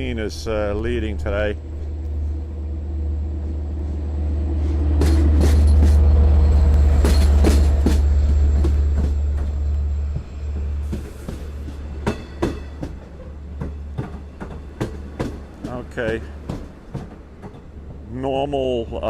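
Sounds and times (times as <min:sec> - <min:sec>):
diesel locomotive engine rumbling: 0:00.0 - 0:19.0
train wheels clicking on rail joints: 0:03.4 - 0:19.0.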